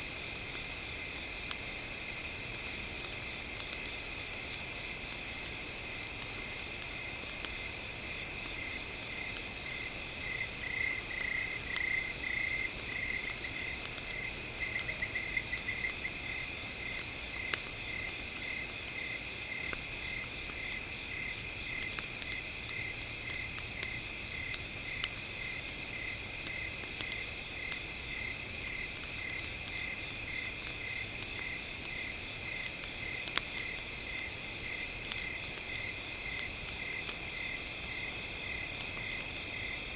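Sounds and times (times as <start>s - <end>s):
campfire crackling and popping: 0.0s - 39.9s
insects trilling and chirping: 0.0s - 39.9s.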